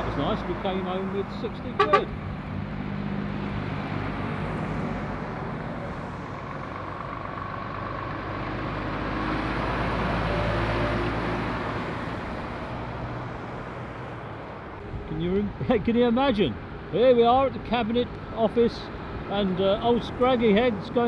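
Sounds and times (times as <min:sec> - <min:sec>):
lorry diesel engines: 0:00.0 - 0:21.0
tyres on road: 0:00.0 - 0:21.0.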